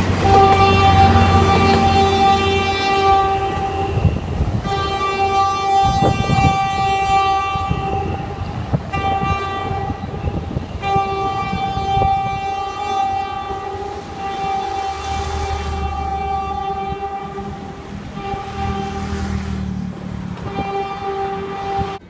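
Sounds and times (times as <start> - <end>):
locomotive horn chord blasts: 0.0 - 22.0
low rumble of train: 0.0 - 22.0.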